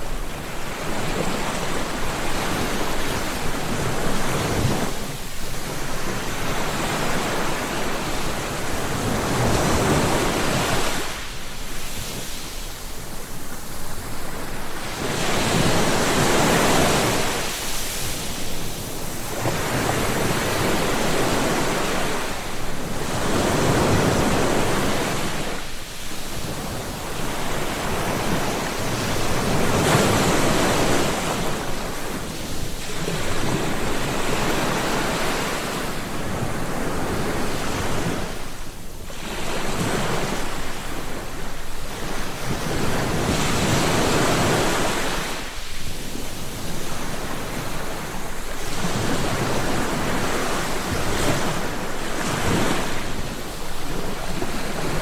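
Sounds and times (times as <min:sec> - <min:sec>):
ocean waves breaking on shore: 0:00.0 - 0:55.0
wind noise: 0:00.0 - 0:55.0.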